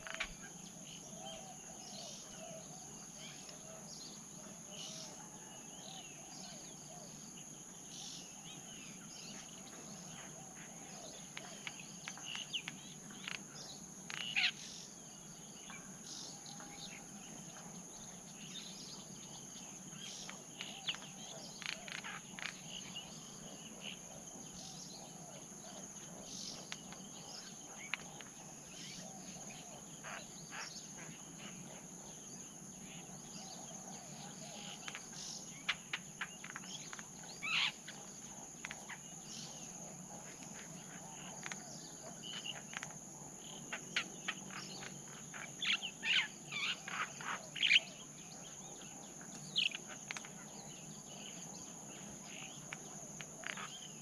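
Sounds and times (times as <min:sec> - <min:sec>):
small birds chirping: 0:06.5 - 0:54.0.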